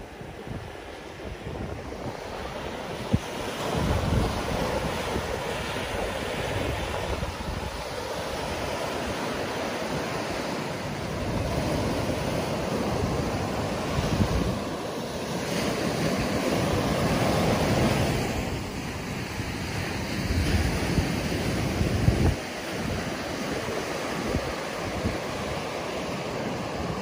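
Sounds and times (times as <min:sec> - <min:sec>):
ocean waves washing up beach: 0:00.0 - 0:27.0
wind buffeting microphone: 0:00.0 - 0:27.0.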